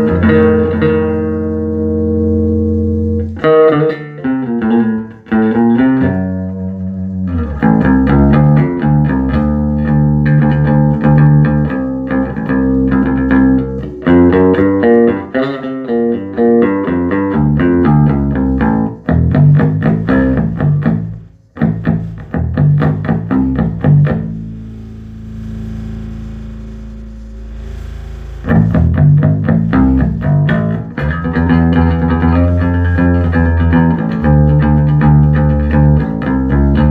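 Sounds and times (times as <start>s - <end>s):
bass guitar plucked notes: 0.0s - 36.9s.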